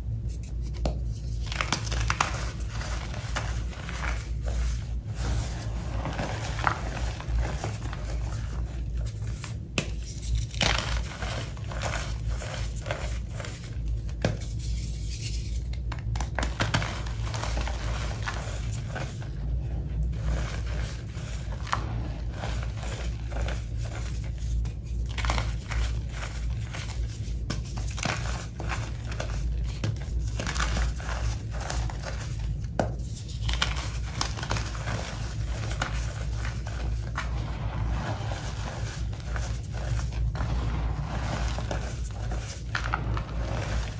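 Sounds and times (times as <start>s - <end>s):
steady low hum: 0.0s - 43.9s
hands crushing chalk: 0.1s - 43.9s.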